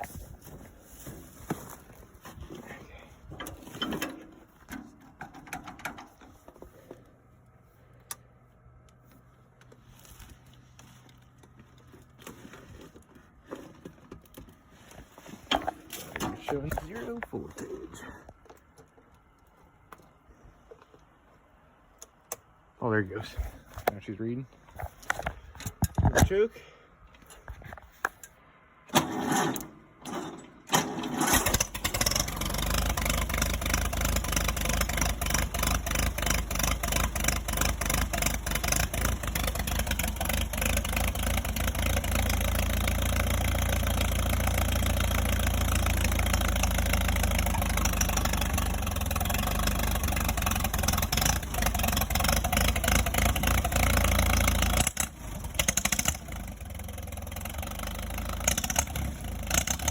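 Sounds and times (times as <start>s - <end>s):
tractor engine cranking: 0.0s - 7.3s, 7.9s - 21.0s, 27.2s - 59.9s
tractor engine running: 0.0s - 59.9s.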